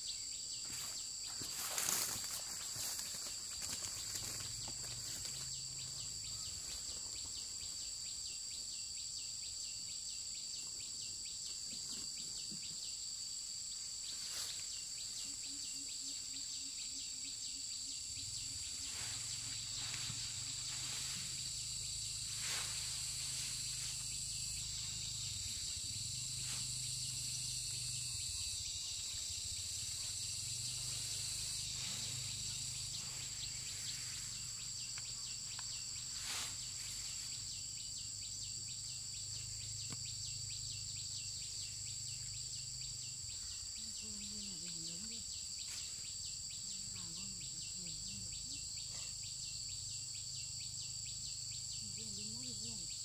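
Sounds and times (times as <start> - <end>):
crickets or cicadas shrilling: 0.0 - 53.0.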